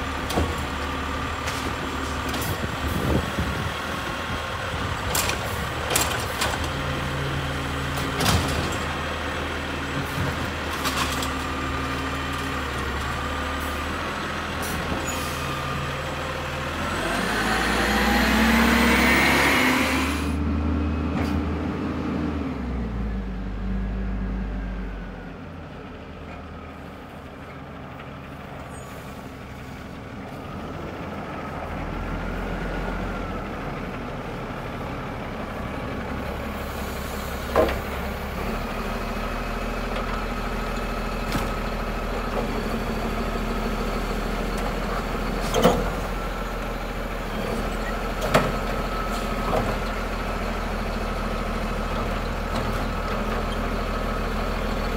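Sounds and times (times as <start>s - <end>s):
garbage truck diesel engine: 0.0s - 54.9s.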